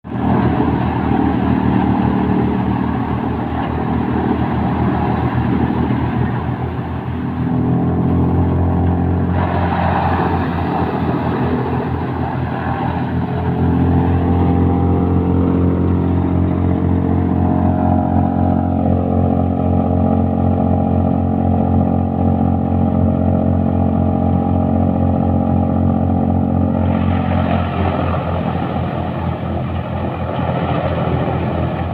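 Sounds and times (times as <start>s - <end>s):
wood chipper running: 0.0s - 31.9s.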